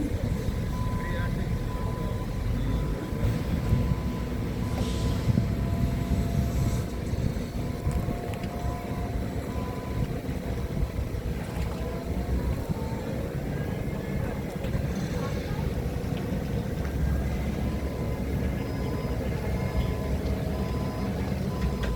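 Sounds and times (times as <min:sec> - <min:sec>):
forklift engine rumbling: 0:00.0 - 0:21.9.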